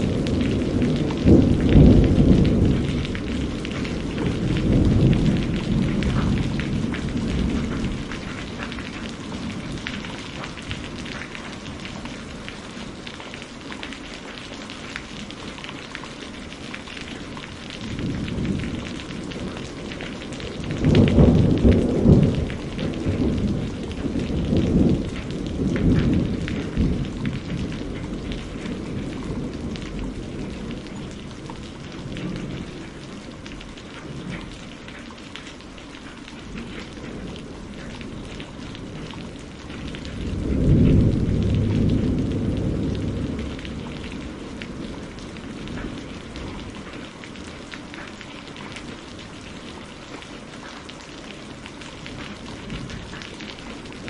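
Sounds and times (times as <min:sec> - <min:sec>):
low rolls of thunder: 0:00.0 - 0:35.0, 0:36.4 - 0:50.2, 0:50.8 - 0:54.0
steady rain falling: 0:00.0 - 0:54.0.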